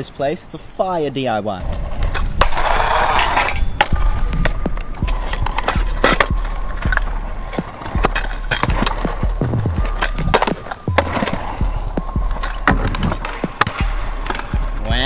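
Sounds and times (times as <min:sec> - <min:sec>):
scooter wheels rolling on concrete: 0:00.0 - 0:15.0
scooter wheels clacking on cracks: 0:01.6 - 0:14.9.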